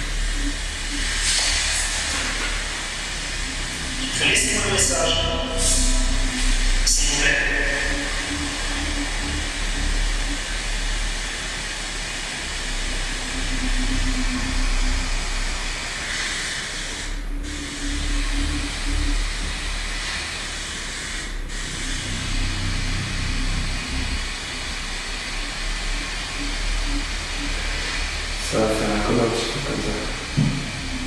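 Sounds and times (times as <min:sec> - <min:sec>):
broken low hum: 0:00.0 - 0:31.0
static hiss: 0:00.0 - 0:31.0.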